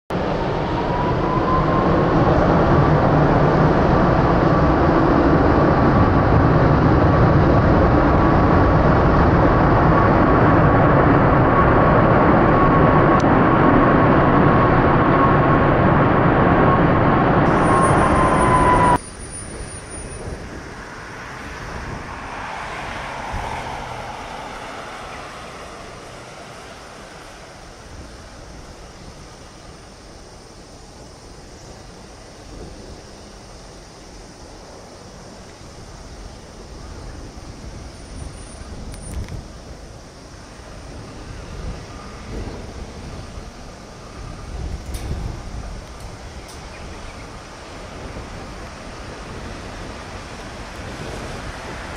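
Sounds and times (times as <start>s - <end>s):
high whine: 0.1s - 49.4s
jet engines in reverse thrust: 0.1s - 51.9s.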